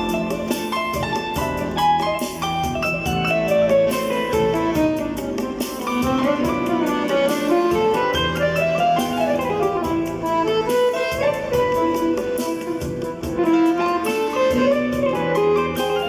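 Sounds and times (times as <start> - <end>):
accordion melody: 0.0 - 16.0
steady drum beat: 0.0 - 16.0.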